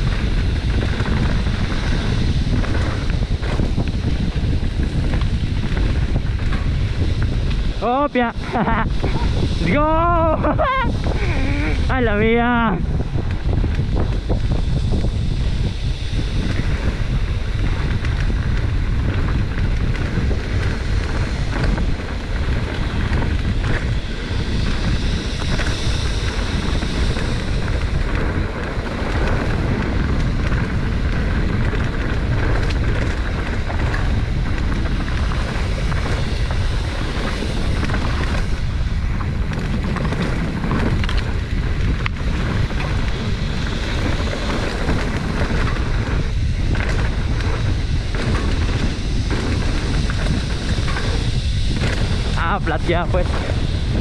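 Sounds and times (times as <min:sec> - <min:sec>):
bike rattling over rough trail: 0:00.0 - 0:54.0
wind buffeting microphone: 0:00.0 - 0:54.0.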